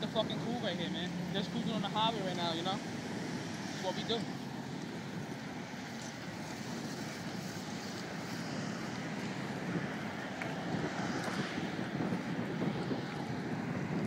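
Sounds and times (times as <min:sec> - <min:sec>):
road traffic noise: 0:00.0 - 0:14.0
wind rush on microphone: 0:00.0 - 0:14.0.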